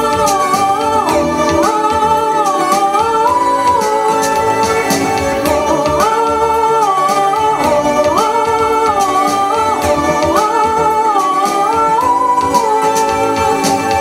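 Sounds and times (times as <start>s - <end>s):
light beat: 0.0s - 14.0s.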